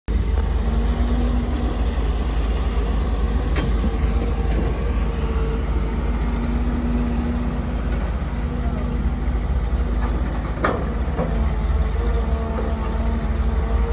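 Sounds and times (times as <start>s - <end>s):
excavator diesel engine drone: 0.1s - 13.9s.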